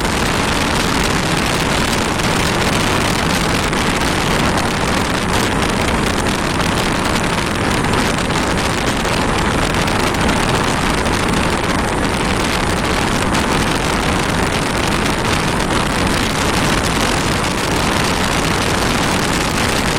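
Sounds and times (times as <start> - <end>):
motorcycle engine running: 0.0 - 19.9
wind noise on microphone: 0.0 - 19.9.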